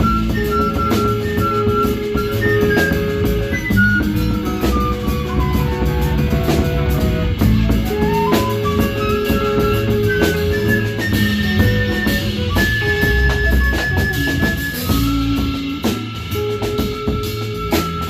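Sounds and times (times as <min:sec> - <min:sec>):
live band playing: 0:00.0 - 0:18.0.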